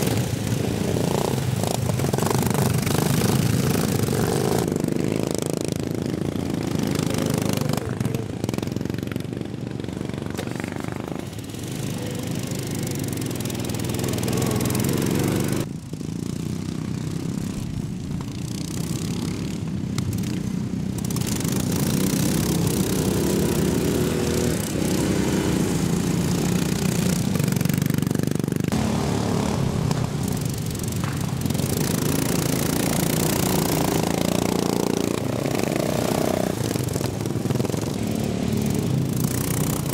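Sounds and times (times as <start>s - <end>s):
lawn mower engines racing past: 0.0s - 39.9s.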